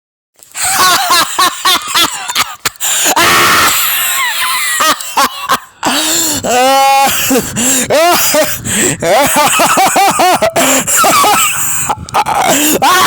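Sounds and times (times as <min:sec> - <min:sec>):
person laughing loudly: 0:00.5 - 0:13.0.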